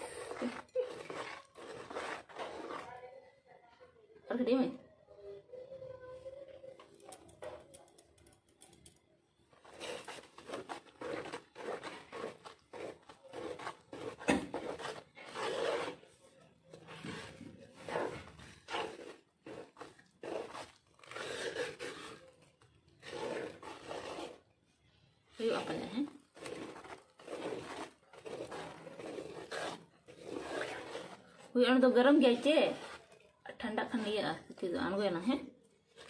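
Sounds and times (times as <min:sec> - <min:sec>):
hand mixing coarse filling: 0:00.0 - 0:03.7, 0:06.3 - 0:36.0.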